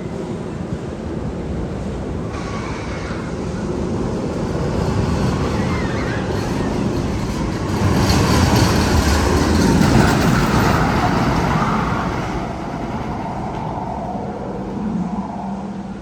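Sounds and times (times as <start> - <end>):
roller coaster rushing rumble: 0.0 - 16.0.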